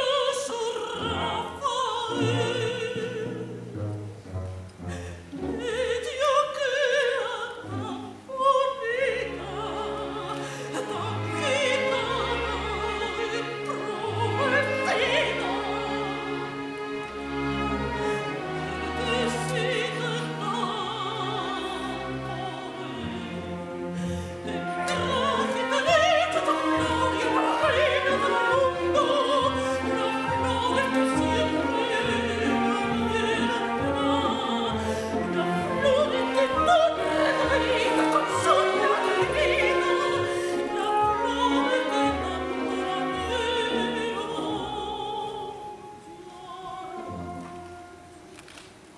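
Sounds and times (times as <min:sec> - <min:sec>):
operatic singing: 0:00.0 - 0:03.8, 0:04.7 - 0:47.9
orchestra playing: 0:00.0 - 0:48.6.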